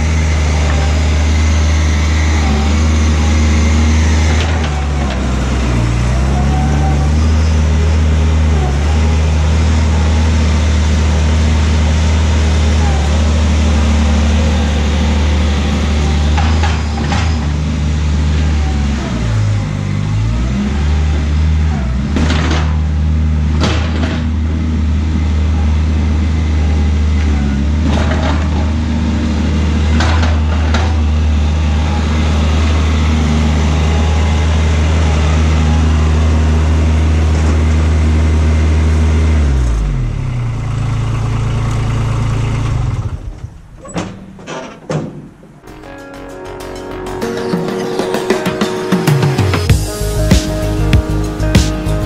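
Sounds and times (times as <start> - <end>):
engine running: 0.0 - 43.8, 45.6 - 52.0.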